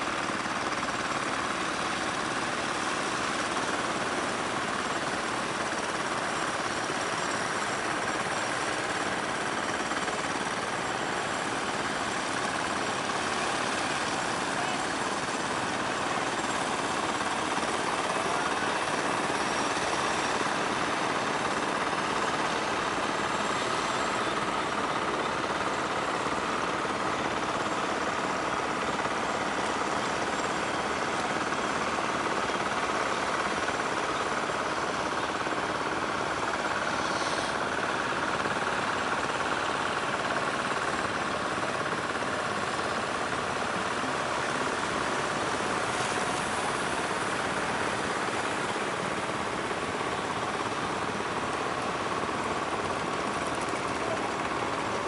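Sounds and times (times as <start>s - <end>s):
boat engines chugging: 0.0s - 55.0s.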